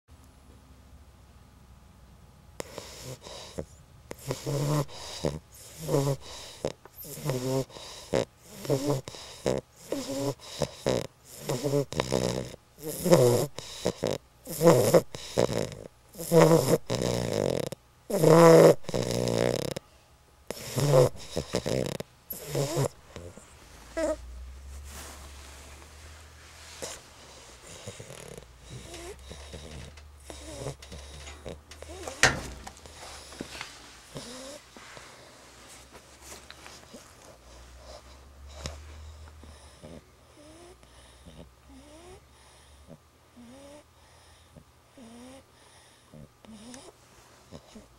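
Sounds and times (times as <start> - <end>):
puppy snoring: 2.6 - 19.8, 20.4 - 35.4, 36.6 - 47.9.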